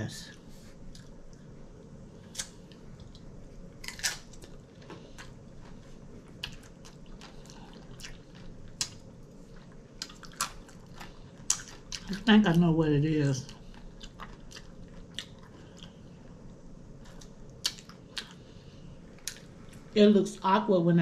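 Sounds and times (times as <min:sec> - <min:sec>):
person chewing crunchy food: 0:00.6 - 0:12.7, 0:13.5 - 0:20.0.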